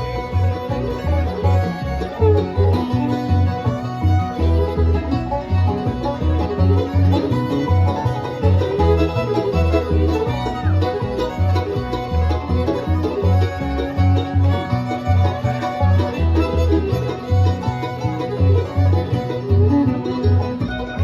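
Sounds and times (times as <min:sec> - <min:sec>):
banjo picking: 0:00.0 - 0:21.0
bass beat: 0:00.0 - 0:21.0
fiddle: 0:00.0 - 0:21.0
guitar: 0:00.0 - 0:21.0.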